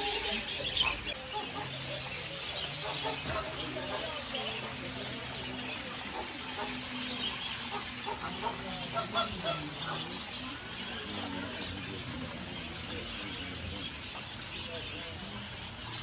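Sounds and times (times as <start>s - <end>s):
flamingos honking: 0.0s - 15.9s.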